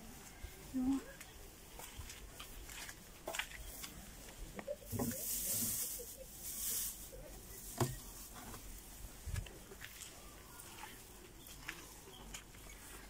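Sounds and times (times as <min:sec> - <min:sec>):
dry hay rustling: 0:00.0 - 0:13.0.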